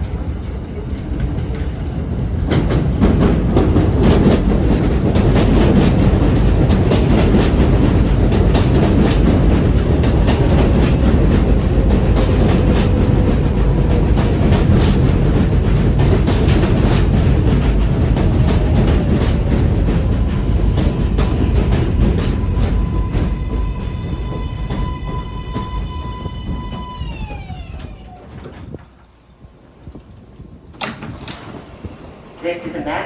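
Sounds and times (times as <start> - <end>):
subway train arriving: 0.0 - 33.0
wheels clacking over rail joints: 0.0 - 33.0.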